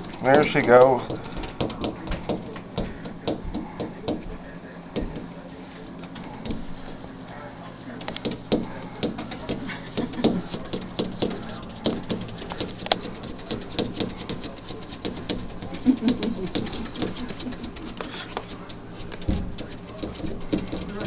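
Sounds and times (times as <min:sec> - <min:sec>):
cat pawing at glass door: 0:00.0 - 0:04.4, 0:06.1 - 0:07.0, 0:08.0 - 0:21.0.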